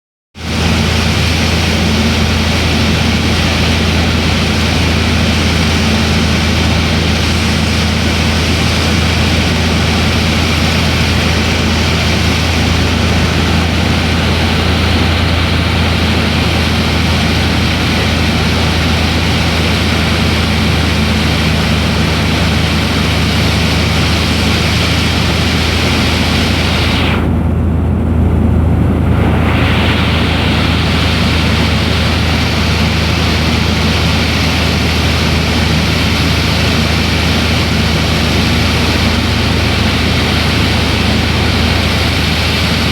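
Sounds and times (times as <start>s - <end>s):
propeller plane engine droning: 0.4s - 42.9s
rushing air noise: 0.4s - 42.9s.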